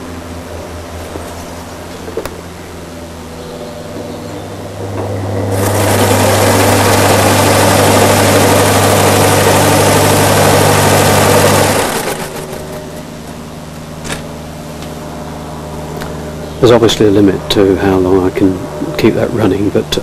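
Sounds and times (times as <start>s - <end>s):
fan rushing air with hum: 0.0s - 20.0s.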